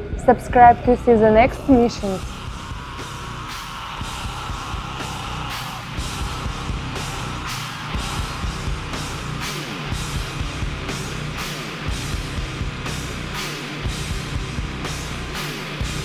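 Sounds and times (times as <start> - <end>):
heavy metal music: 0.0 - 16.0.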